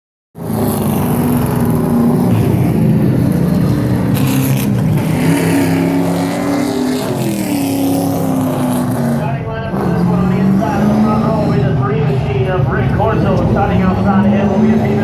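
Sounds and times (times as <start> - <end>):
race truck engines droning: 0.4 - 15.0.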